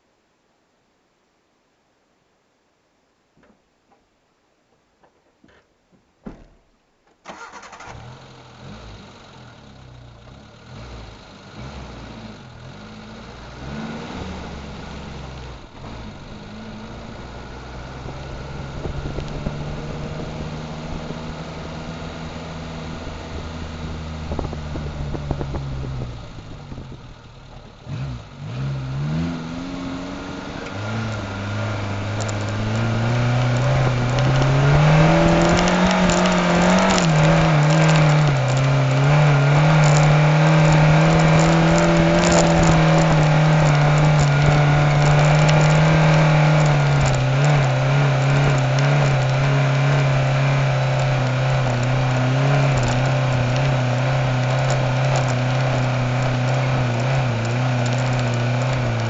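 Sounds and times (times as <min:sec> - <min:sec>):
car engine revving: 0:07.3 - 0:59.0.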